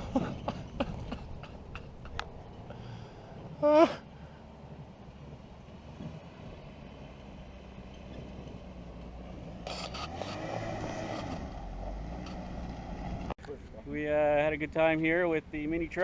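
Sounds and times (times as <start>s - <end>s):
truck engine droning: 0.0s - 13.4s.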